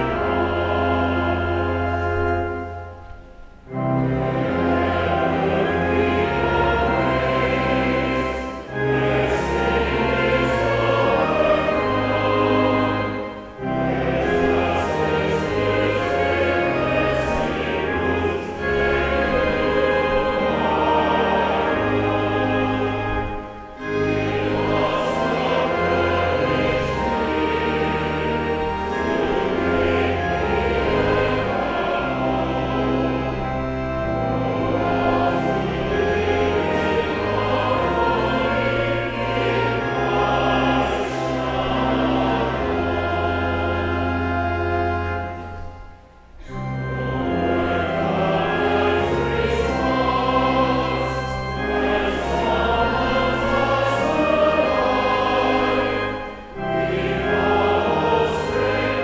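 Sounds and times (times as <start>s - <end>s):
congregation and choir singing hymn: 0.0s - 59.0s
sustained instrumental accompaniment: 0.0s - 59.0s.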